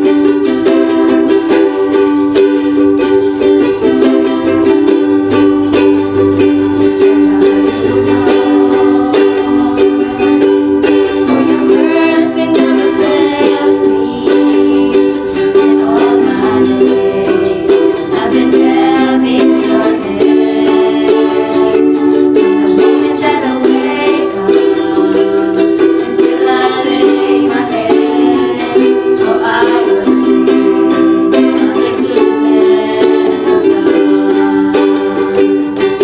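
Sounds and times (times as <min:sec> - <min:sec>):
ukulele strumming chords: 0:00.0 - 0:36.0.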